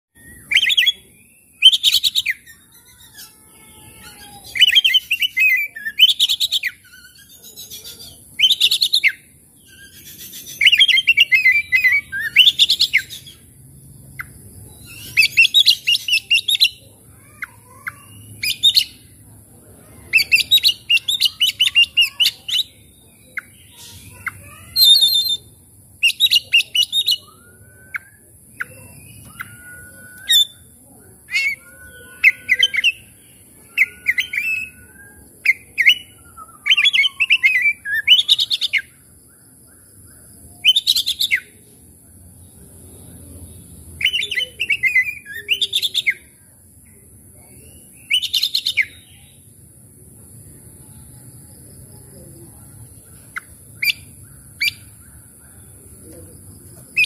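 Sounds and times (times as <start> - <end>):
bird singing and chattering: 0.2 - 57.0.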